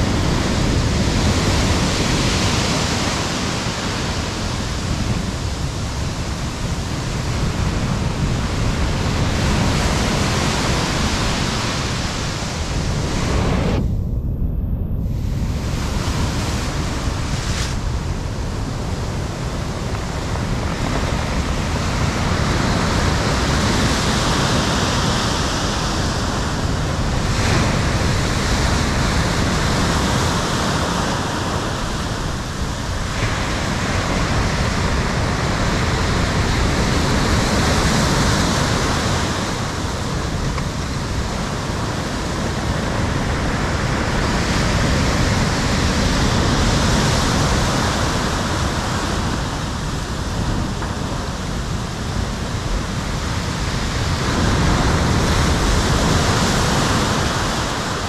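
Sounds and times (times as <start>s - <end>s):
heavy waves breaking: 0.0s - 58.0s.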